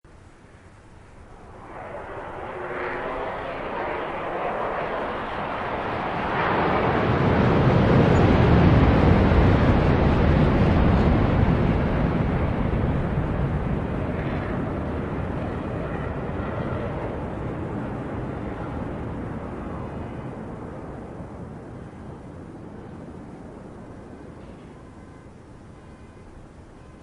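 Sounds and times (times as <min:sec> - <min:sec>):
aircraft flying past: 0:00.2 - 0:27.0.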